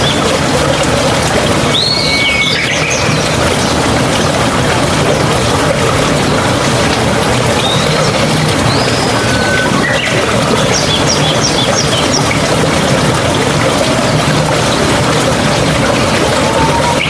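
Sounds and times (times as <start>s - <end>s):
stream running and gurgling: 0.0s - 17.0s.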